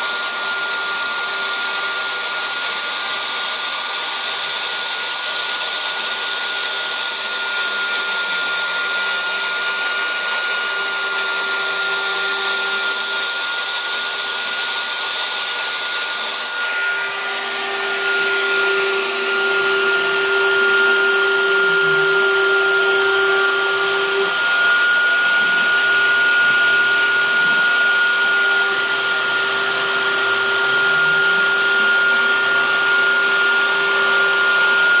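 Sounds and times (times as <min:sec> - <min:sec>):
cnc router spindle whining: 0:00.0 - 0:35.0
router bit milling wood: 0:00.0 - 0:35.0.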